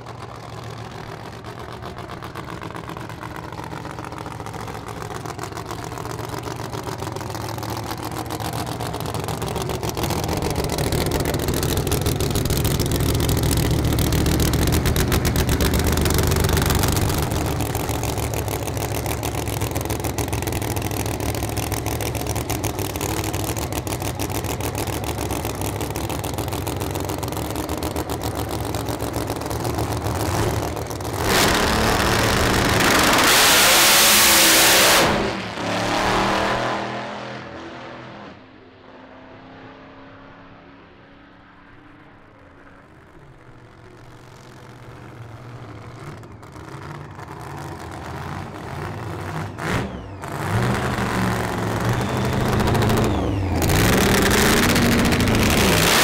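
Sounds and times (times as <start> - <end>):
drag car engine idling: 0.0 - 33.3, 41.9 - 55.9.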